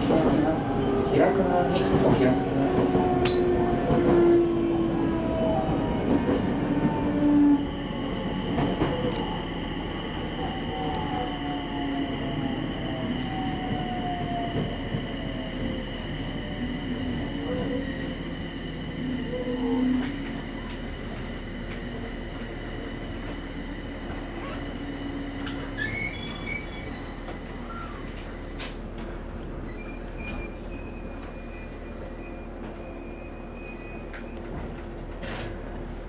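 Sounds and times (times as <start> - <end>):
electric train hum and whine: 0.0 - 36.0.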